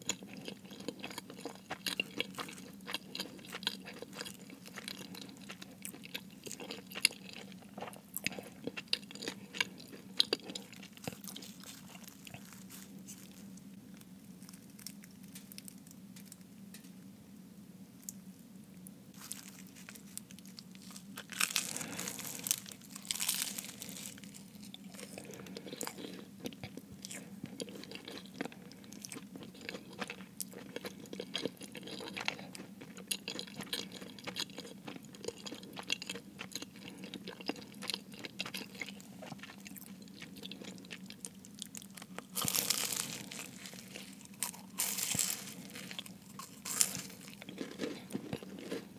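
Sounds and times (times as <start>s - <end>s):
chewing crunchy pastry: 0.0s - 16.4s, 19.1s - 48.9s.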